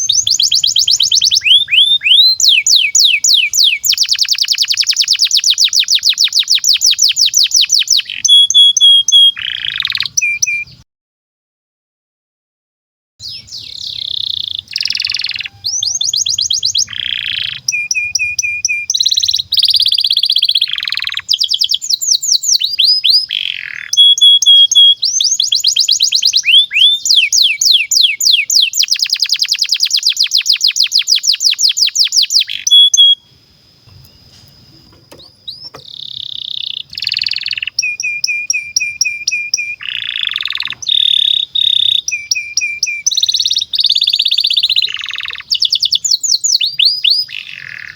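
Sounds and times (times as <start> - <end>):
canary singing trills: 0.0 - 10.8, 13.2 - 47.9.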